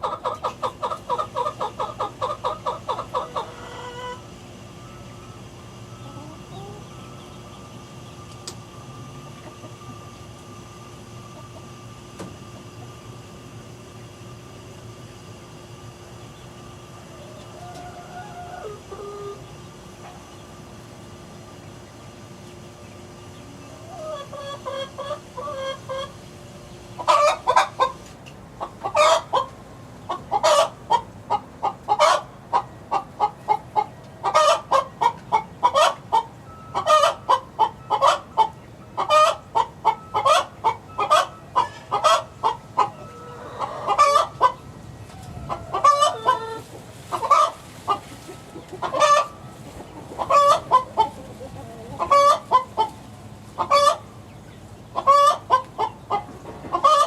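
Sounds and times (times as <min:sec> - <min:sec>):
chicks cheeping and clucking: 0:00.0 - 0:57.0.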